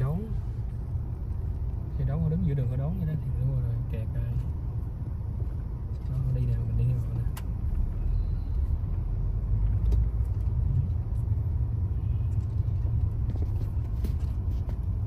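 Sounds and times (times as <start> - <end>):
car engine rumble and road noise: 0.0 - 15.0.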